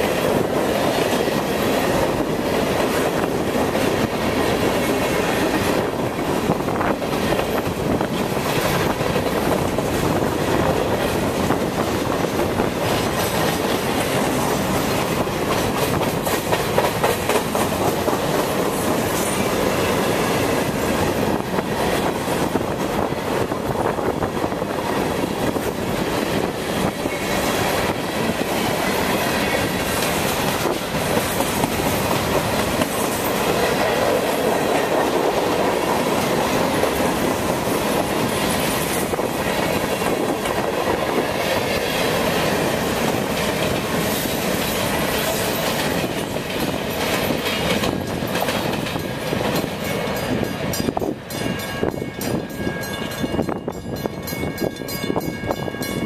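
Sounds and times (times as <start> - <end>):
freight train rumbling past: 0.0 - 56.0
train wheels clacking on track: 0.0 - 56.0.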